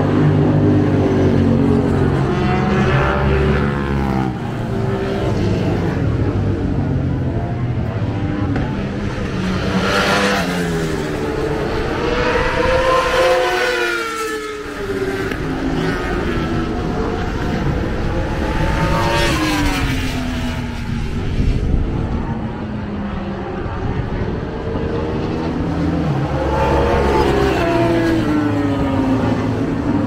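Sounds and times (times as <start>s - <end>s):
racing motorcycles passing: 0.0s - 30.0s.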